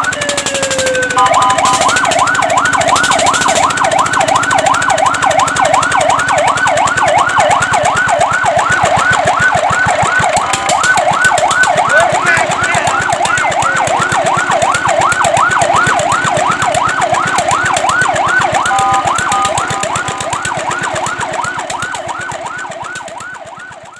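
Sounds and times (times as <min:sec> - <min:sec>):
fire truck siren yelping: 0:00.0 - 0:23.9
steady siren tones: 0:00.0 - 0:23.9.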